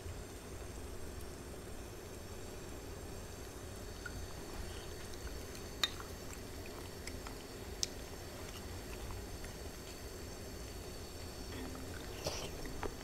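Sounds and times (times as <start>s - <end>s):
broth simmering: 0.0s - 13.0s.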